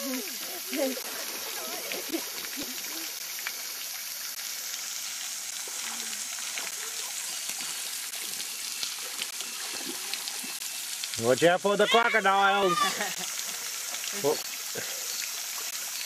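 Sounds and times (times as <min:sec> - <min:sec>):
sprinkler spray hissing onto water: 0:00.0 - 0:16.0.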